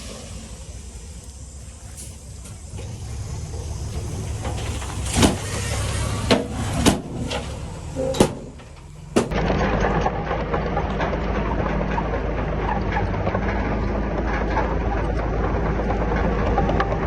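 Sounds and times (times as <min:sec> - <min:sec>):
heavy diesel machinery running: 0:00.0 - 0:17.0
loud engine rumble: 0:00.0 - 0:17.0.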